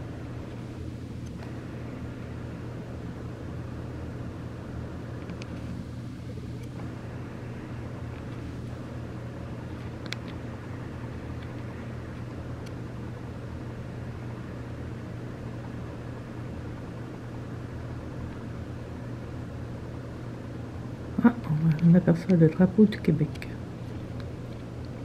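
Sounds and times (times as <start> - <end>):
ventilation unit hum: 0.0 - 25.0.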